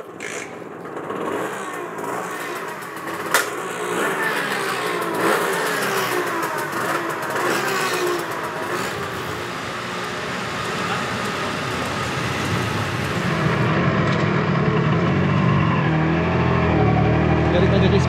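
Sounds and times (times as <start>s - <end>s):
moped engine revving: 0.0s - 18.0s.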